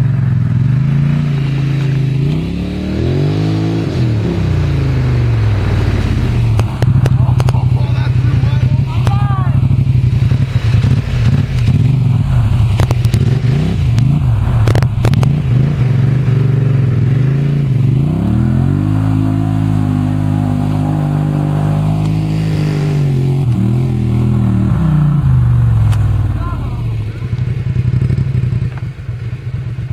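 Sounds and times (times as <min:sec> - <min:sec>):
atv engine revving: 0:00.0 - 0:29.9.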